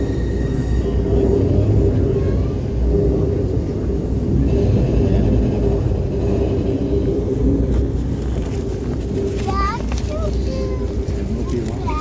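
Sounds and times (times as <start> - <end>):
faint drone: 0.0 - 12.0
train rumbling inside coach: 0.0 - 12.0.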